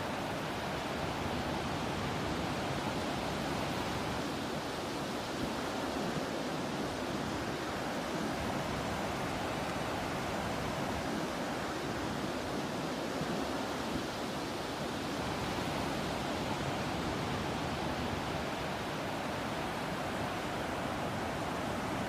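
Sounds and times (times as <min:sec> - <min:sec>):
sea breeze: 0:00.0 - 0:22.0.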